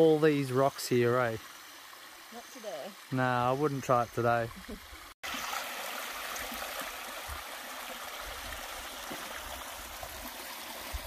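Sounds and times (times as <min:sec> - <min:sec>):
creek water trickling over rocks: 0:00.0 - 0:11.0.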